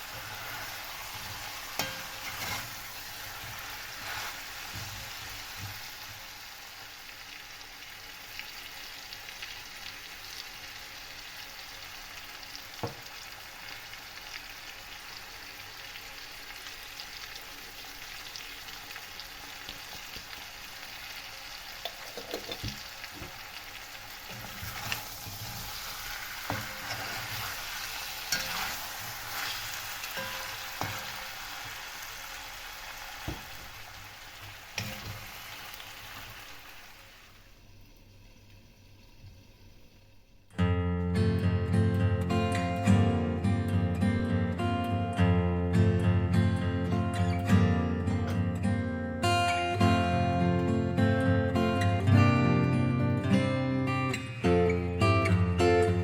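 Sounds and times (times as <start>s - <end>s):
food sizzling in a pan: 0.0s - 40.5s, 41.5s - 56.0s.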